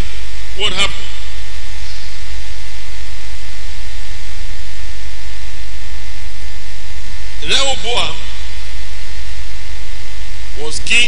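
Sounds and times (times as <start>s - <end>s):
electrical mains hum: 0.0s - 11.0s
faint whine tones: 0.0s - 11.0s.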